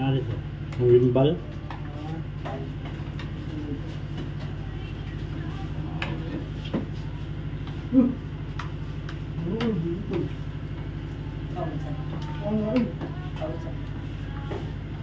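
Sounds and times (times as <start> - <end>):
voices: 0.0 - 15.0.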